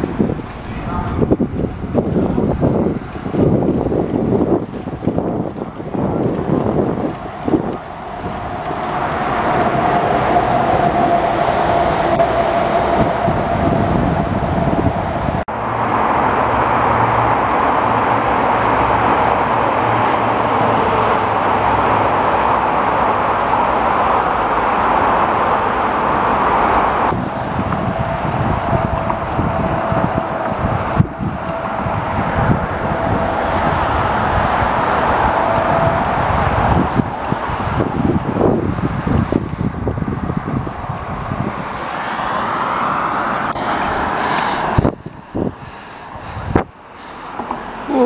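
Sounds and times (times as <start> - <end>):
road traffic rushing: 0.0 - 48.0.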